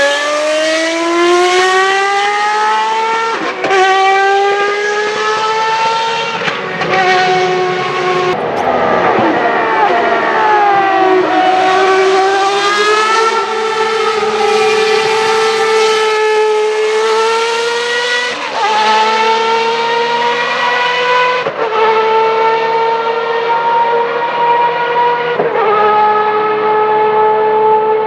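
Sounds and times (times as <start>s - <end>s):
high-pitched racing car engine: 0.0s - 28.0s.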